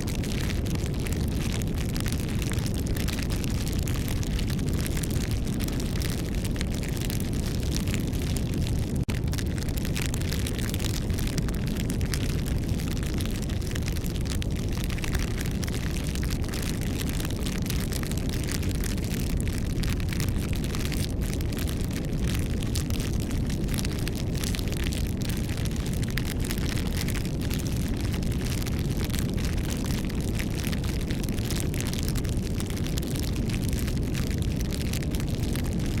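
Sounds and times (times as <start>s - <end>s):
campfire flames rumbling: 0.0s - 36.0s
wood crackling and popping: 0.0s - 36.0s.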